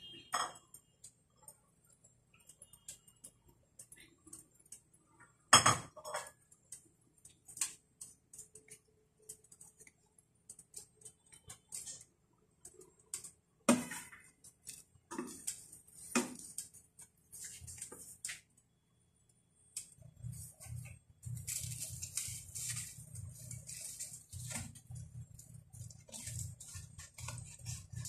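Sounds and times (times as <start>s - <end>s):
sandwich crackling in a frying pan: 0.0s - 28.0s.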